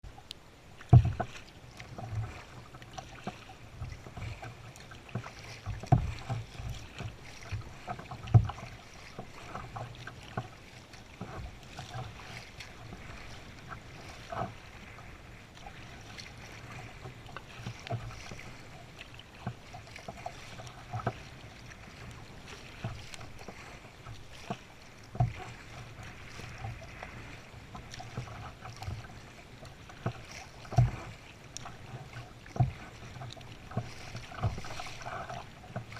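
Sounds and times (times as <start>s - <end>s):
paddle strokes in water: 0.0s - 35.9s
water washing: 1.1s - 35.9s.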